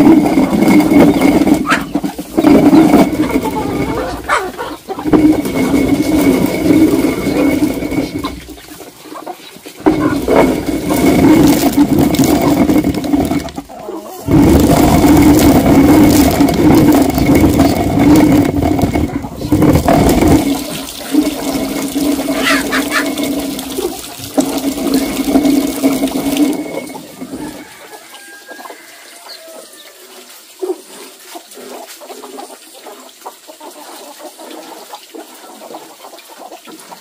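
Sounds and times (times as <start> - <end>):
water running and splashing: 0.0 - 37.0.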